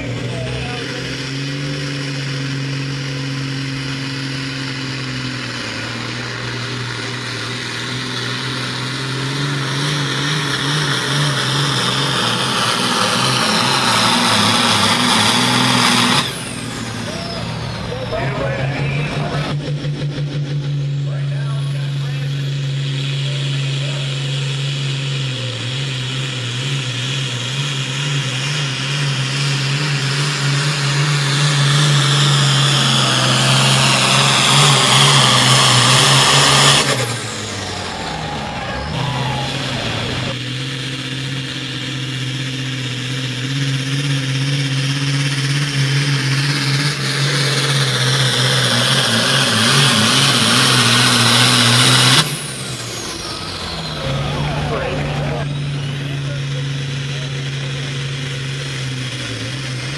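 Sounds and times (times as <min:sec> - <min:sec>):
high turbo whine: 0:00.0 - 0:59.9
tractor engine under heavy load: 0:00.0 - 0:59.9.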